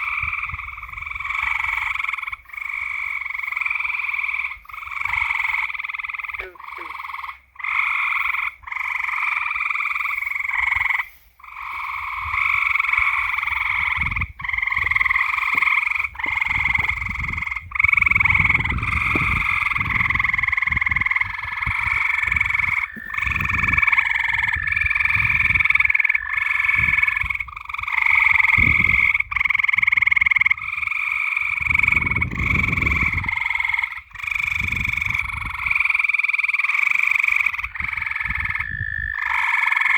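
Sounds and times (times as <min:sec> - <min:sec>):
frogs calling: 0:00.0 - 0:39.9.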